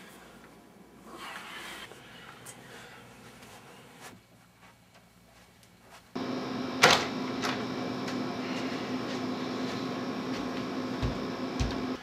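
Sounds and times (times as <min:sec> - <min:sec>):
mechanical hum with low drone: 0:00.0 - 0:12.0.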